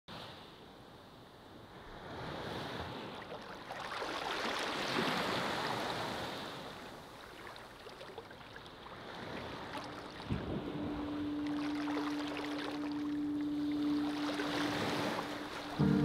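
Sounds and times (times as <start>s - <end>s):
ocean waves washing onto beach: 0.1s - 16.0s.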